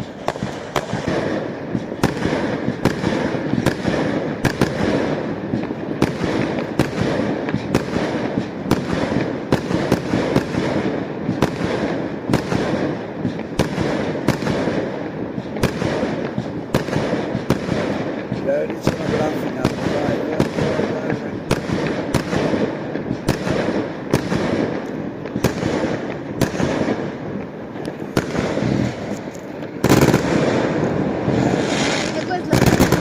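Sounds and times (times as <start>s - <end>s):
dense crackling rumble: 0.0s - 33.0s
fireworks bangs: 0.0s - 33.0s.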